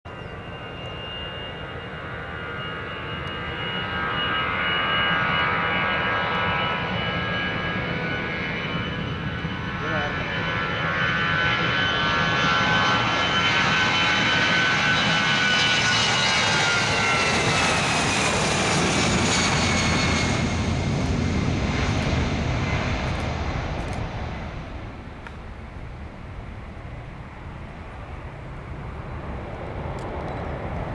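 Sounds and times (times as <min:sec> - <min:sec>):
jet engines whining: 0:00.1 - 0:30.9.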